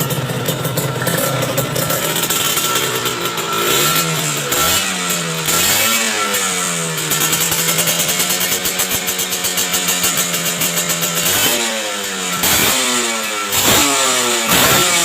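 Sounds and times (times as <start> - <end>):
motorcycle idling and revving: 0.0 - 15.0.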